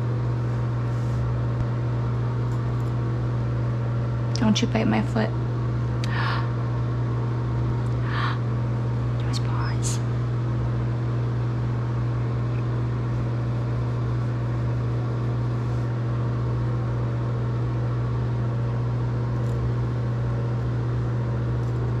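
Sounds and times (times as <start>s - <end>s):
exhaust fan hum: 0.0s - 22.0s.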